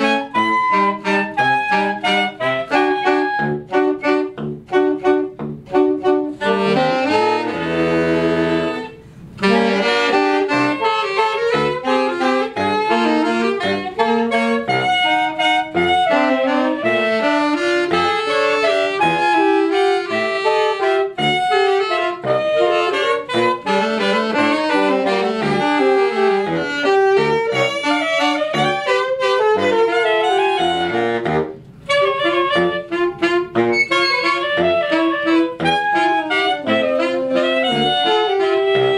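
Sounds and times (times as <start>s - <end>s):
out of tune soprano saxophone: 0.0s - 38.9s
small ensemble playing: 0.0s - 38.9s.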